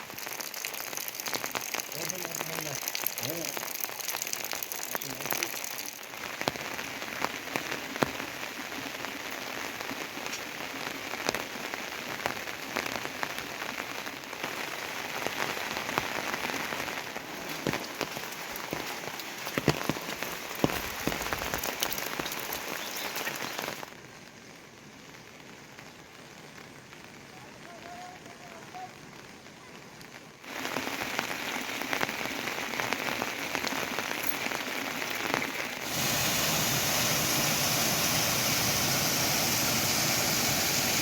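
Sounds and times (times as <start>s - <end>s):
heavy rain falling: 0.0s - 41.0s
raindrops striking close by: 0.0s - 41.0s.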